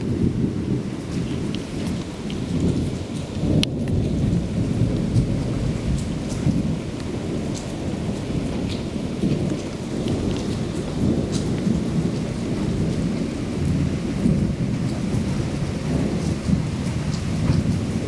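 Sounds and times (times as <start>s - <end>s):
low rumble of thunder: 0.0s - 18.0s
rain: 0.0s - 18.0s.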